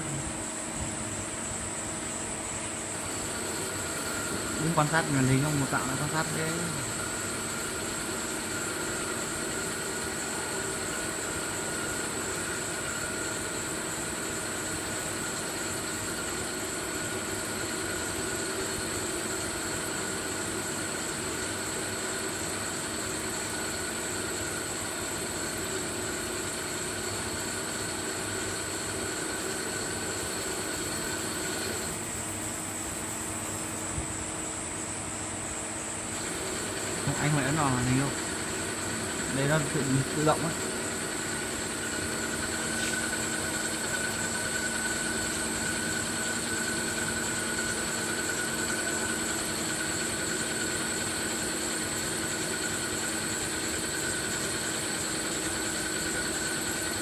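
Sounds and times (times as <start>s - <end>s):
machine whining over hiss: 0.0s - 35.0s, 35.9s - 57.0s.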